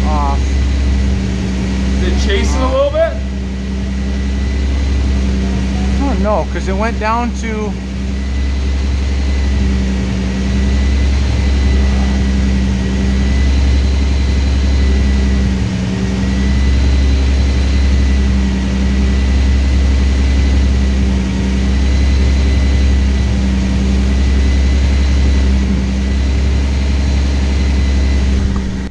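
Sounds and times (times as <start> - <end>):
faint high whine: 0.0 - 28.8
car engine idling: 0.0 - 28.9.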